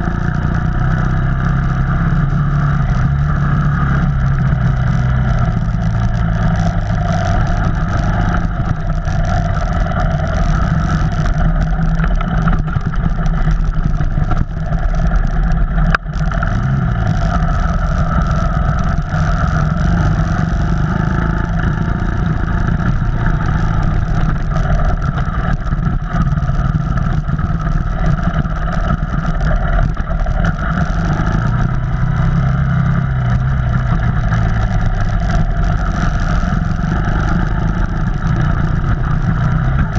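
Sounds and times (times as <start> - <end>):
off-road vehicle engine rumbling: 0.0 - 39.9.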